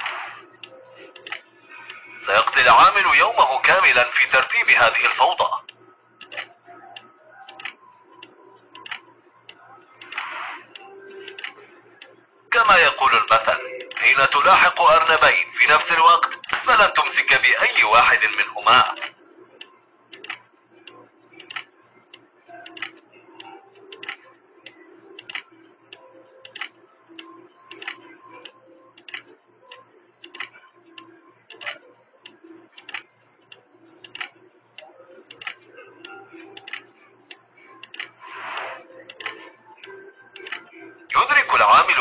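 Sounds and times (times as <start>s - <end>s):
regular ticking: 0.0s - 38.2s.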